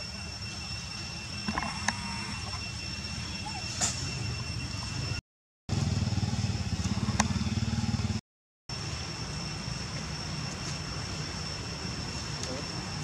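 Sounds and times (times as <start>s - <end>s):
thin high-pitched whine: 0.0s - 5.2s, 5.8s - 13.0s
steady background hum: 0.0s - 13.0s.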